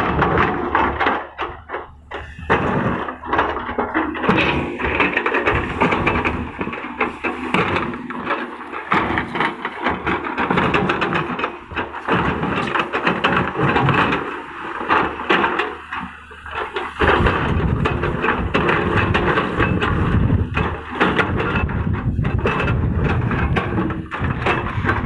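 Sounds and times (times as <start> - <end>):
heavy low rumble: 0.0 - 14.3, 17.0 - 25.0
bucket knocking and scraping stones: 0.0 - 25.0
excavator engine running: 0.0 - 25.0.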